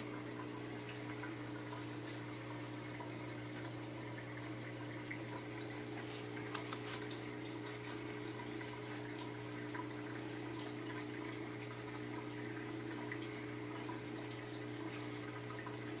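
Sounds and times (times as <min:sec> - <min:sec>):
pump low hum: 0:00.0 - 0:16.0
trickle of moving water: 0:00.0 - 0:16.0.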